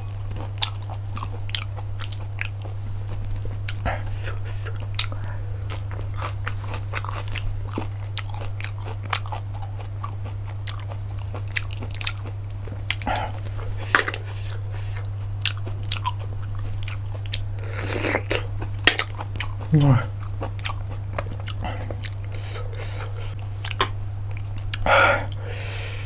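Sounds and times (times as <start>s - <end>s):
person chewing: 0.0s - 26.0s
steady low hum: 0.0s - 26.0s.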